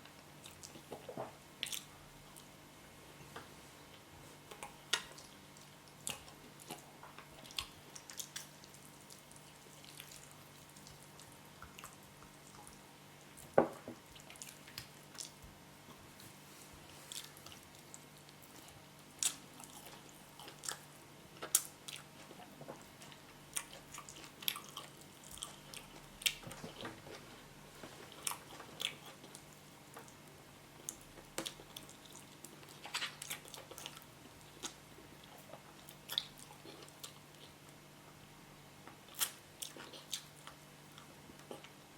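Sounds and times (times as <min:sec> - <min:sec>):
person chewing with wet smacks: 0:00.0 - 0:02.6, 0:03.3 - 0:38.2, 0:38.8 - 0:41.9.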